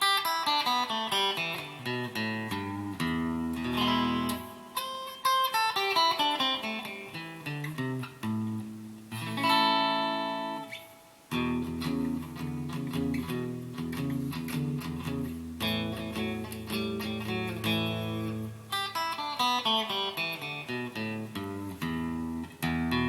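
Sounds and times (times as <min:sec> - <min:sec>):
electric guitar notes and chords: 0:00.0 - 0:23.0.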